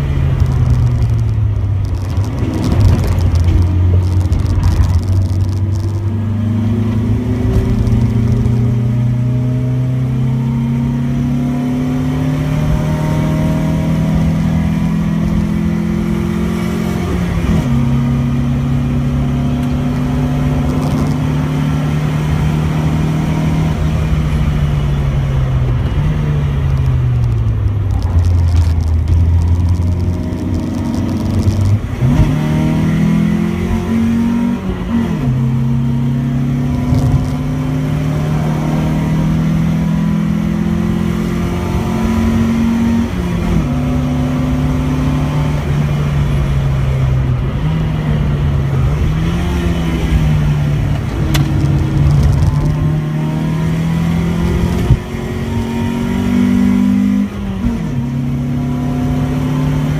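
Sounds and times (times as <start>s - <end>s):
car engine revving at full throttle: 0.0s - 59.9s.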